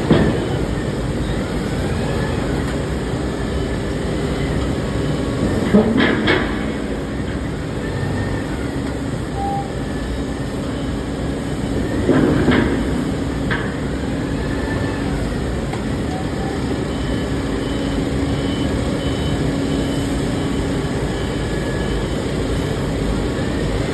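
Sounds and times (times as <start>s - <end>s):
machinery rumble: 0.0s - 23.9s.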